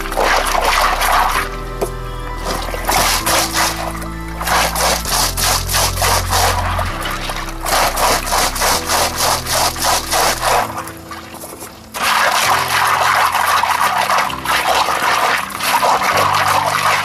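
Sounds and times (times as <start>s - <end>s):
background music with steady beat: 0.0s - 17.0s.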